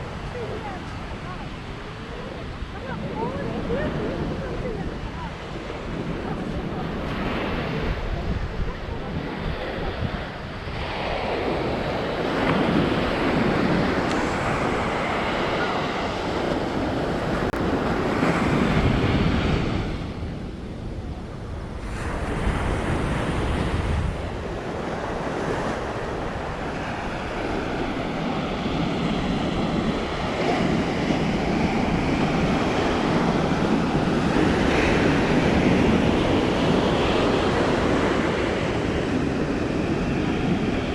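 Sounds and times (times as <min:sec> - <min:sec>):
ocean surf breaking: 0:00.0 - 0:40.9
wind buffeting microphone: 0:00.0 - 0:40.9.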